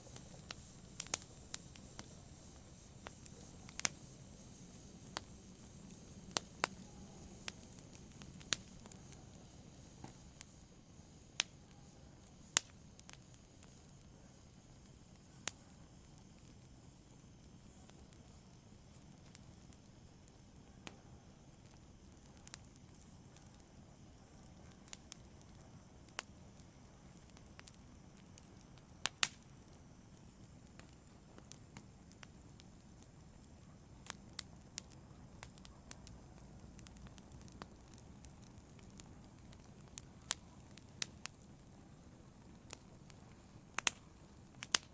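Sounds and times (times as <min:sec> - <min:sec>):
burning logs crackling and popping: 0:00.0 - 0:44.9
fire hissing: 0:00.0 - 0:44.9.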